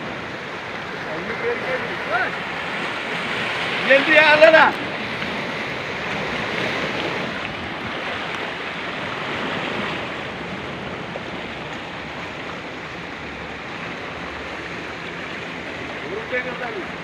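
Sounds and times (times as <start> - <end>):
surf washing against rocky shore: 0.0 - 17.0.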